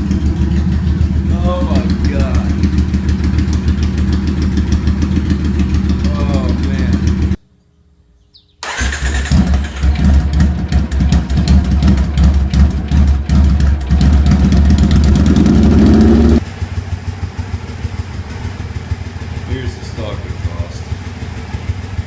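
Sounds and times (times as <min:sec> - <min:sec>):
motorcycle engine revving: 0:00.0 - 0:07.4, 0:08.6 - 0:22.0.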